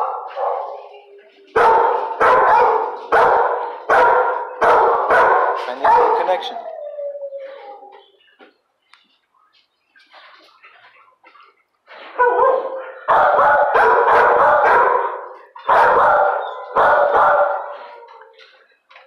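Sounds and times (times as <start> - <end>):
dogs barking: 0.0 - 8.1, 11.3 - 18.5.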